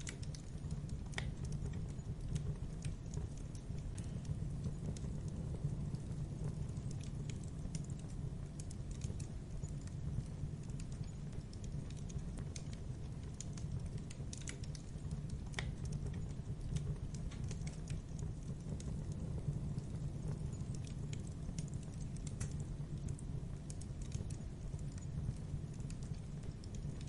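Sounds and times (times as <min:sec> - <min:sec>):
campfire flame rumble: 0:00.0 - 0:27.0
wood crackling and popping: 0:00.0 - 0:27.0.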